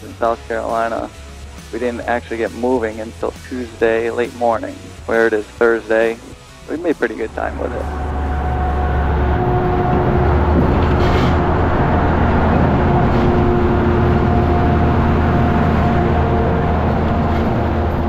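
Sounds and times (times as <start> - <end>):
truck diesel engine drone: 0.0 - 18.0
tyre and road noise: 0.0 - 18.0.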